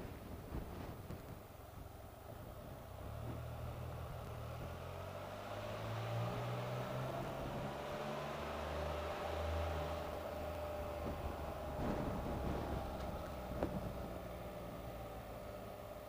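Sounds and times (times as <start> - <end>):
road and wind hiss: 0.0 - 16.0
motorcycle engine: 2.2 - 16.0.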